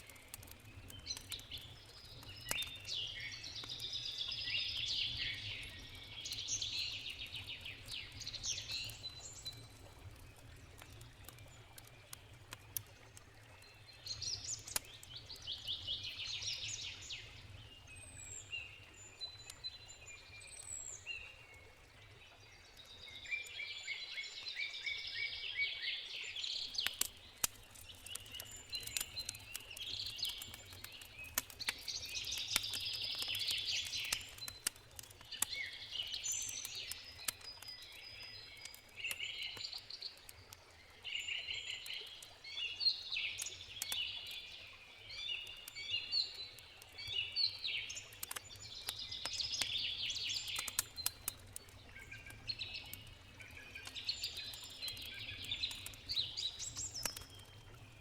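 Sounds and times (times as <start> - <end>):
campfire crackling and popping: 0.0 - 25.1, 26.1 - 58.0
songbirds singing: 0.0 - 58.0.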